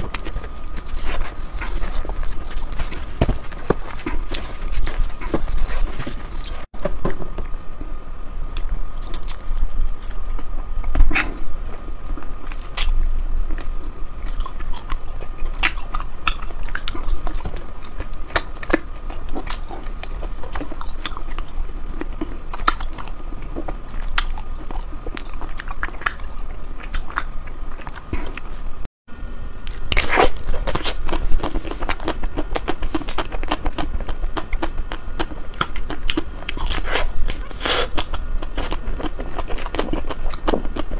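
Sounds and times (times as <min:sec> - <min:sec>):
crunchy chewing of ice cream: 0:00.0 - 0:07.5, 0:08.5 - 0:28.8, 0:29.6 - 0:40.9.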